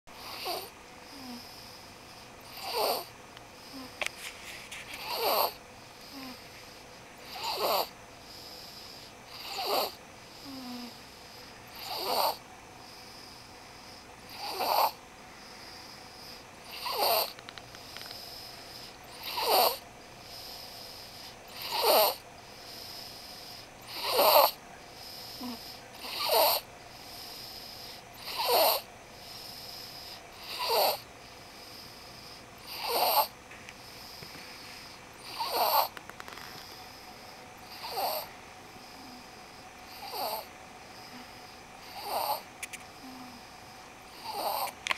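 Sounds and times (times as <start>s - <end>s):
baby snoring: 0.1s - 1.8s, 2.4s - 4.1s, 4.8s - 6.6s, 7.2s - 43.5s, 44.1s - 44.9s.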